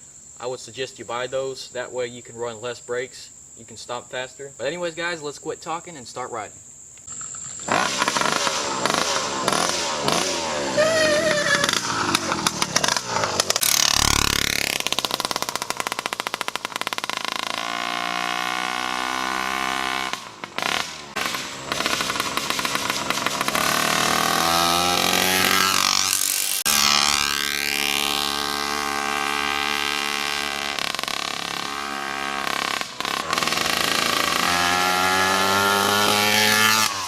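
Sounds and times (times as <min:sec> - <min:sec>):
two-stroke engine revving: 0:07.1 - 0:37.0.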